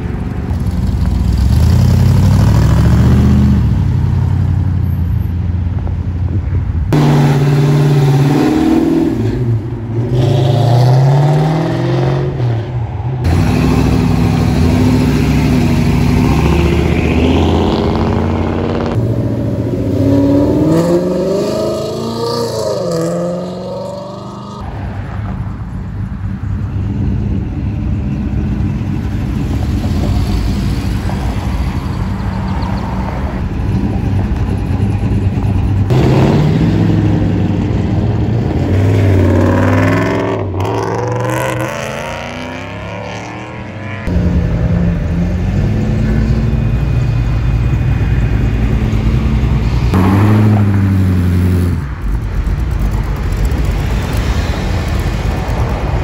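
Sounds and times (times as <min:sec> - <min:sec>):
car engines rumbling and revving: 0:00.0 - 0:56.0.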